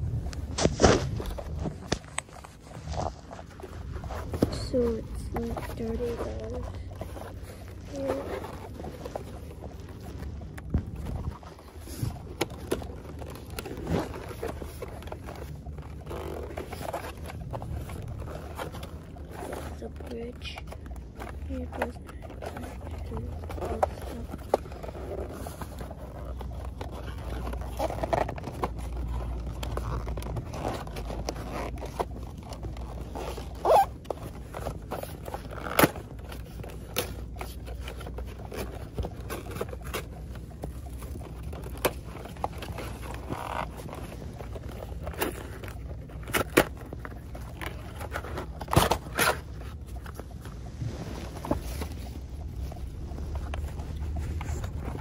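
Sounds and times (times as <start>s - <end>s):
car cabin rumble: 0.0s - 55.0s
packaging scraping and crinkling: 0.0s - 55.0s.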